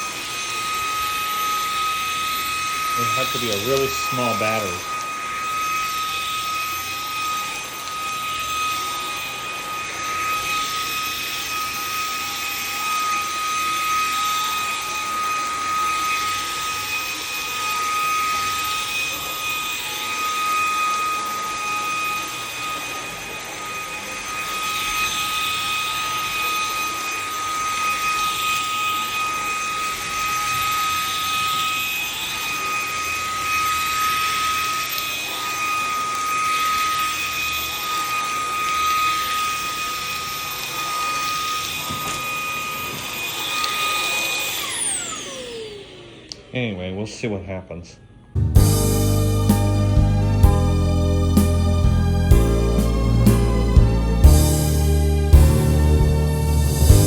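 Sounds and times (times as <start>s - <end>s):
vacuum cleaner whine and air rush: 0.0s - 47.1s, 48.0s - 57.0s.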